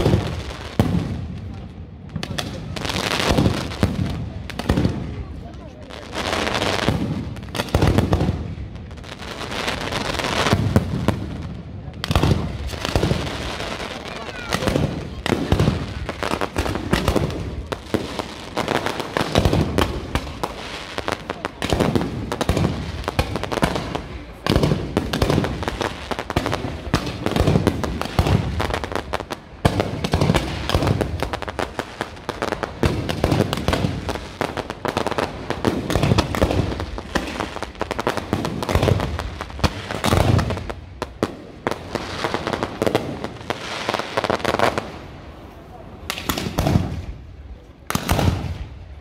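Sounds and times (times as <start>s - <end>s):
fireworks bangs: 0.0s - 49.0s
fireworks crackling: 0.0s - 49.0s.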